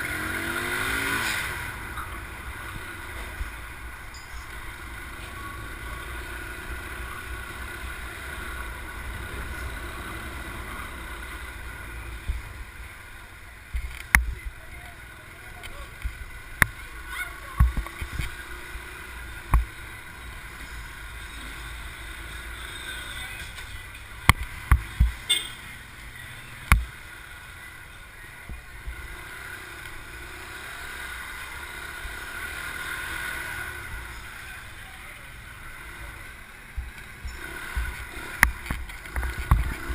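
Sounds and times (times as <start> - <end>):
motorbike running: 0.0 - 39.9.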